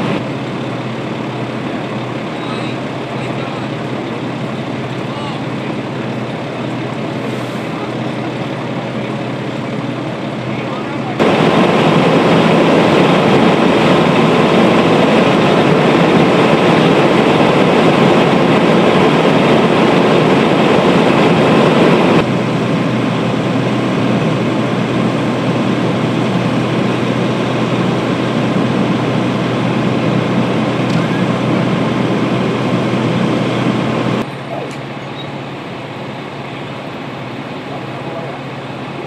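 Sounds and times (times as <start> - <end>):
fire engines idling: 0.0 - 39.0.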